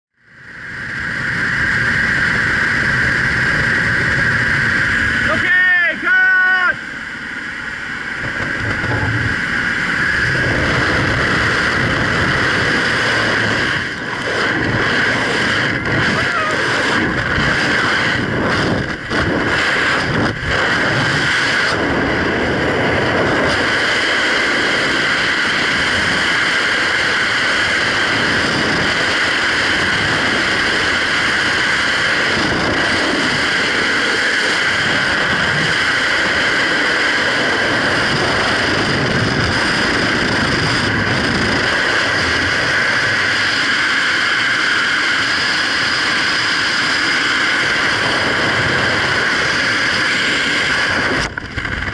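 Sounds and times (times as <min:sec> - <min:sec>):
wind rushing over microphone: 0:00.2 - 0:51.9.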